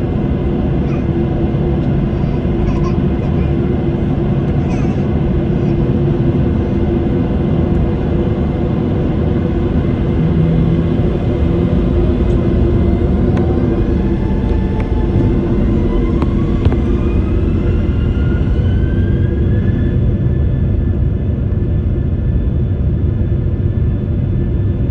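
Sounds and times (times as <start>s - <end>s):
jet engine rumble in cabin: 0.0s - 24.9s
jet engine whine rising: 0.0s - 24.9s.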